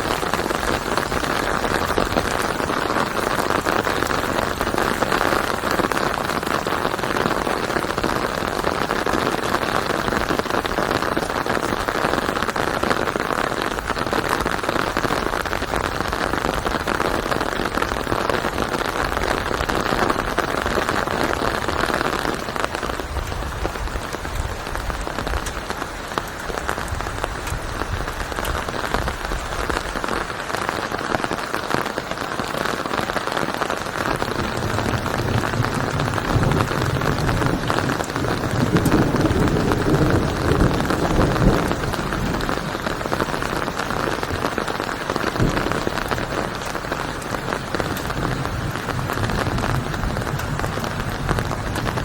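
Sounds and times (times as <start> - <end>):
rain patter: 0.0 - 52.0.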